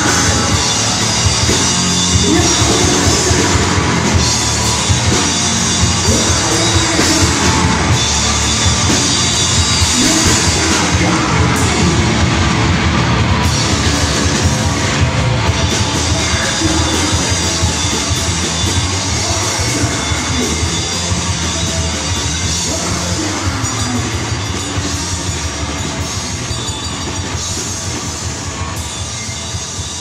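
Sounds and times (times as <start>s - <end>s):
distorted electric guitar: 0.0s - 30.0s
drum kit: 0.0s - 30.0s.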